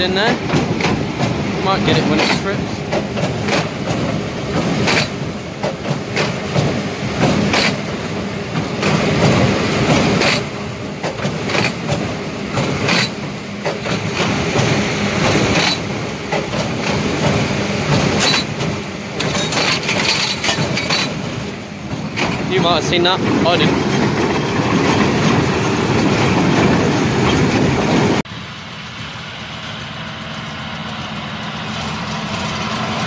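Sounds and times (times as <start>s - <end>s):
baler mechanical clatter: 0.0s - 28.2s.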